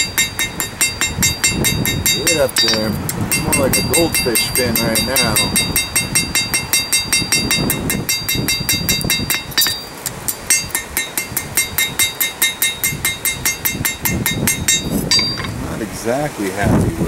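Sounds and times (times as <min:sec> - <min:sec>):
hammer striking steel on anvil: 0:00.0 - 0:15.5.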